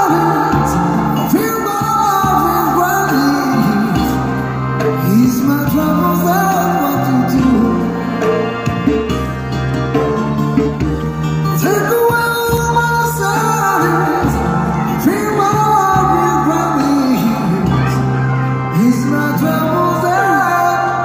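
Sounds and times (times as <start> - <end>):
man singing through amplifier: 0.0 - 8.6, 11.5 - 21.0
instrumental accompaniment: 0.0 - 21.0.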